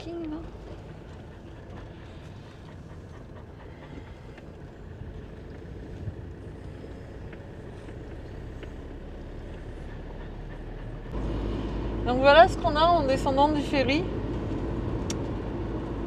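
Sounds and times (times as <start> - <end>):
motorhome engine rumble: 0.0 - 16.0.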